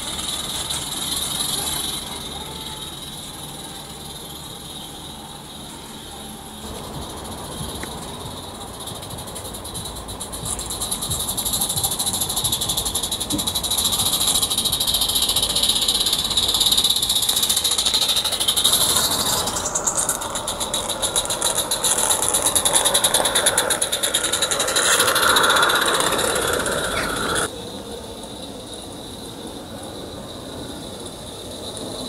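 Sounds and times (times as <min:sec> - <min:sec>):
steam locomotive passing: 0:00.0 - 0:32.0
wheels running on track: 0:00.0 - 0:32.0.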